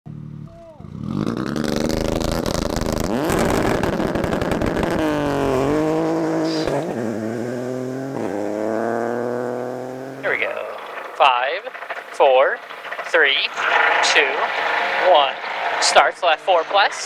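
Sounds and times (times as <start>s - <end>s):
rally car engine revving: 0.1s - 17.0s.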